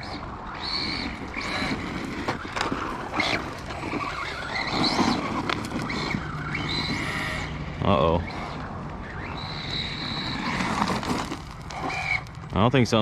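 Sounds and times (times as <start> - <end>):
toy car drivetrain whining: 0.0 - 13.0
tyre noise: 0.0 - 13.0.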